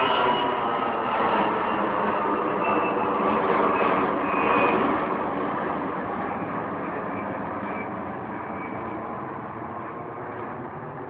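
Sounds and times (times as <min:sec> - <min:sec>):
jet airliner roaring overhead: 0:00.0 - 0:11.0.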